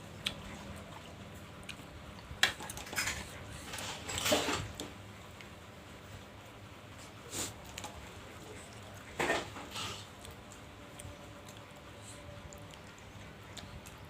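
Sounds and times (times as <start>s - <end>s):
eating sounds: 0.0s - 5.6s, 7.0s - 14.0s.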